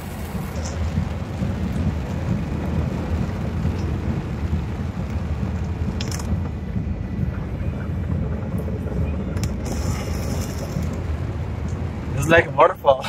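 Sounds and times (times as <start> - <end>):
car driving rumble: 0.0 - 13.0
rain and spray hissing: 0.0 - 13.0.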